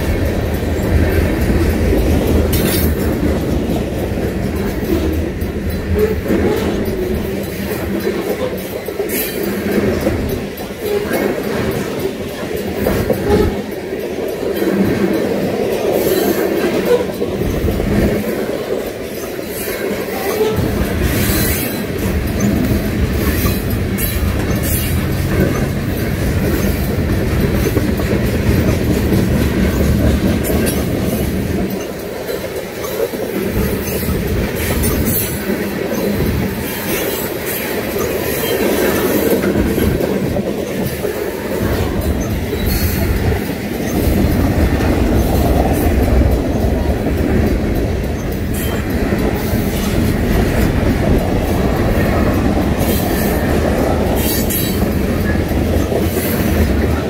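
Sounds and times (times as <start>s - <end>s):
train cars clanking: 0.0s - 57.0s
train wheels rumbling on rails: 0.0s - 57.0s.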